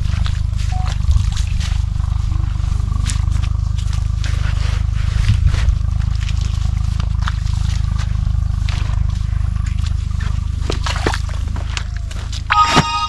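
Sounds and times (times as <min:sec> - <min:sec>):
diesel pump engine drone: 0:00.0 - 0:13.0.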